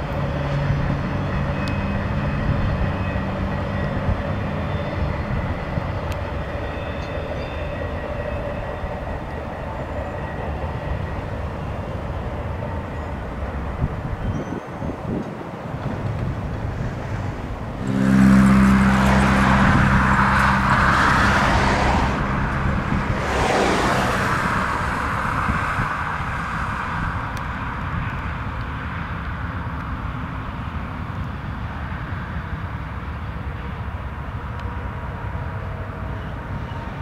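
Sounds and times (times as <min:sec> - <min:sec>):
diesel locomotive engine hum: 0:00.0 - 0:37.0
rail cars rolling by: 0:00.0 - 0:37.0
train wheels rolling on rails: 0:00.0 - 0:37.0.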